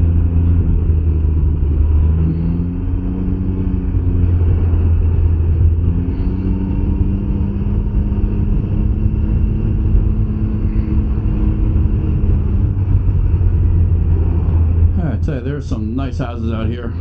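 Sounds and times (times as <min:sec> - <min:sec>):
trike engine running: 0:00.0 - 0:17.0.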